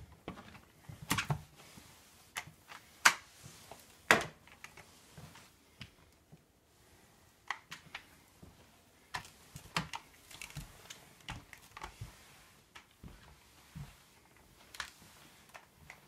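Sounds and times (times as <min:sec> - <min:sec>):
mop clicking on hardwood floor: 0:00.0 - 0:06.5, 0:07.4 - 0:16.0.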